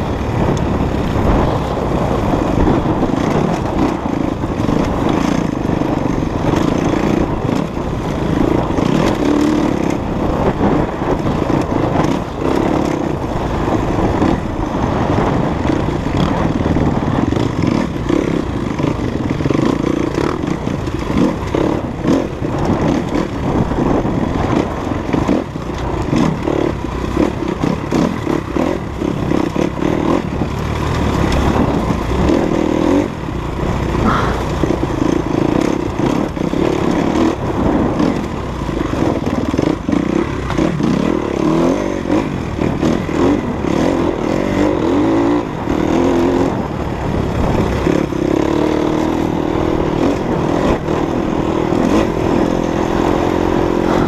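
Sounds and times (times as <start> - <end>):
dirt bike engine revving: 0.0 - 54.0
rattling over rough terrain: 0.0 - 54.0.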